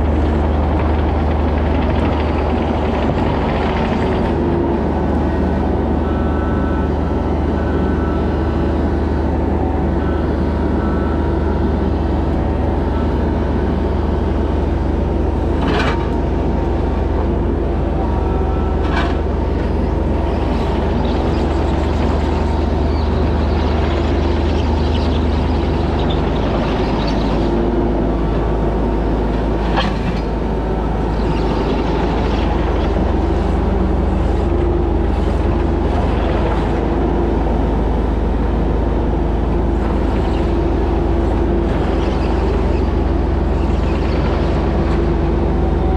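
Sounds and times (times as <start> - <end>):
mini excavator engine running: 0.0 - 45.9.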